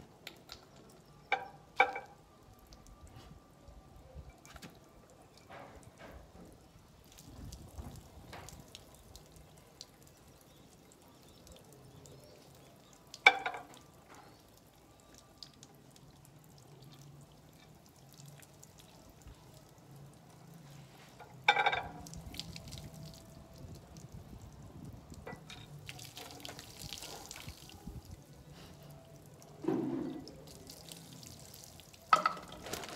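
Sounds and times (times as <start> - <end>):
faint fizzing: 0.3 - 32.9.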